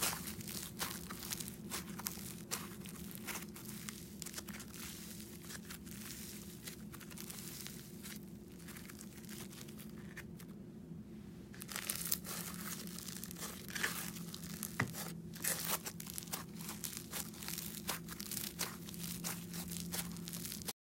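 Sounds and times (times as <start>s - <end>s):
slime crackling and crunching: 0.0s - 10.5s, 11.6s - 20.8s.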